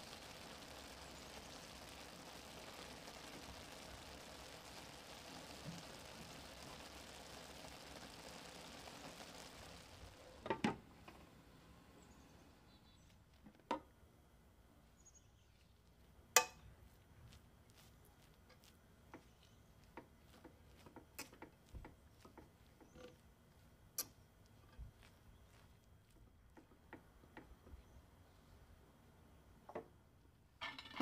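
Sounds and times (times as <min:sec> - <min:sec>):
faint hiss: 0:00.0 - 0:30.9.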